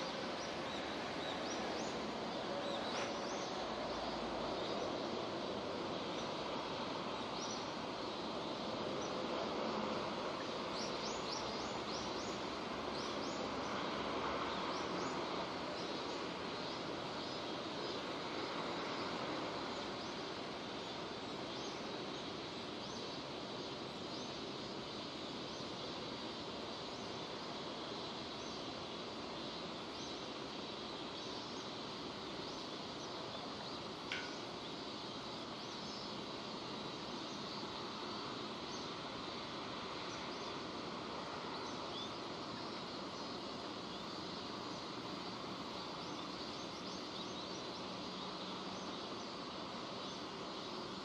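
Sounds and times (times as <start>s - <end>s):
steady rain hiss: 0.0s - 51.0s
faint bird chirp: 5.9s - 51.0s.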